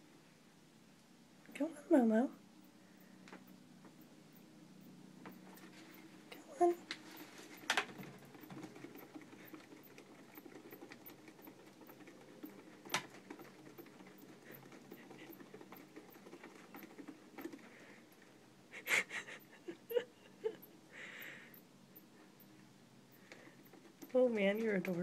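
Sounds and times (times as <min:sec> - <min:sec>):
exercise wheel spinning: 0:03.0 - 0:25.0.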